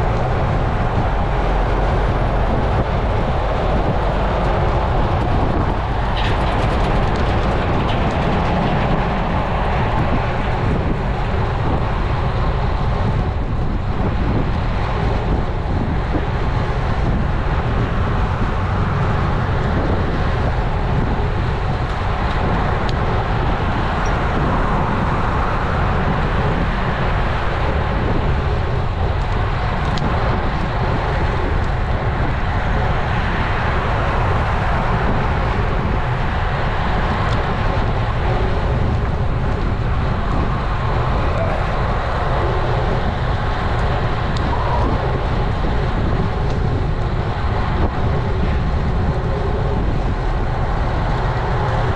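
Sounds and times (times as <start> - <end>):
bike tyre and road noise: 0.0 - 51.9
wind rushing on microphone: 0.0 - 51.9.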